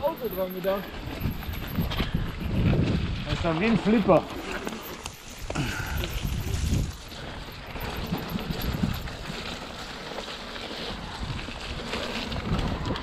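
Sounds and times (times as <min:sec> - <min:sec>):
bike tyres rolling over ground: 0:00.0 - 0:13.0
wind on microphone: 0:00.9 - 0:04.4, 0:05.0 - 0:09.8, 0:10.8 - 0:13.0.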